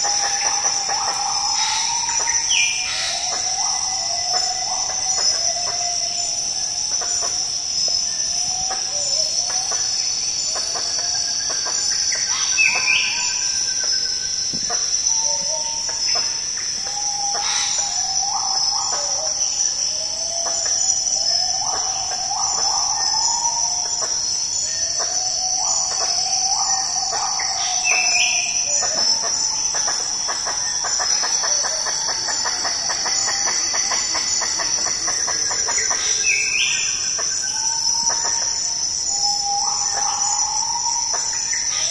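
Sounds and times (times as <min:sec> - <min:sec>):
insects droning: 0:00.0 - 0:41.9.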